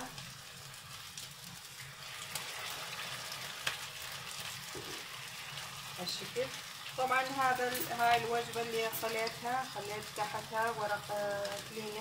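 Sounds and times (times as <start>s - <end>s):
patties sizzling in hot oil: 0.0s - 12.0s.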